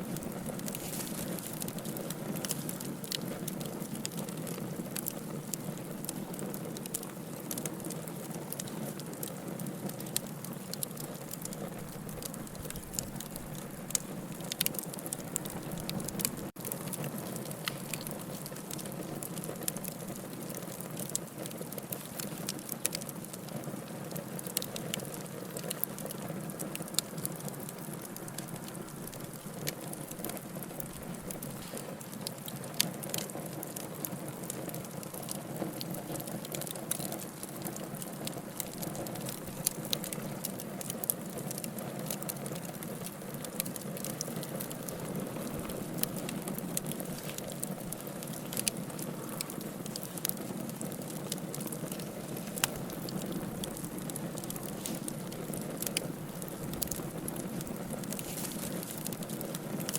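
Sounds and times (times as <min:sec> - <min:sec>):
constant hiss: 0:00.0 - 0:59.9
fire popping: 0:00.0 - 0:59.9
wood fire crackling: 0:00.0 - 0:59.9.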